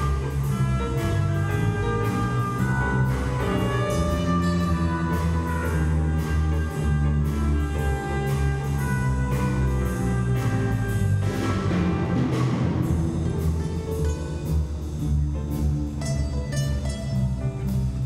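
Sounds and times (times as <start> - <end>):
drum and cymbal strokes: 0.0 - 18.0
orchestra playing jazz: 0.0 - 18.0.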